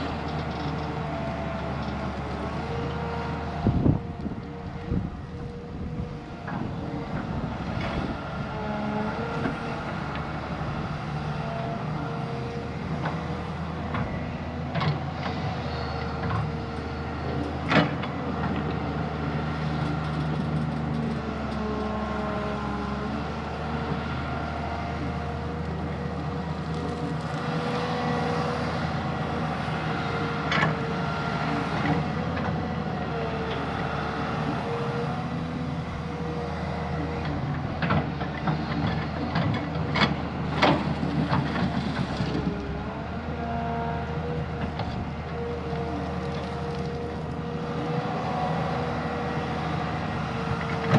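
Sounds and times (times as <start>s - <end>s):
heavy diesel machinery running: 0.0s - 50.9s.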